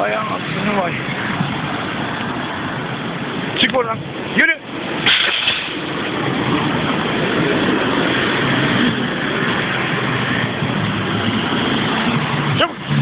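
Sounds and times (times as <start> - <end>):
rushing traffic noise: 0.0 - 13.0.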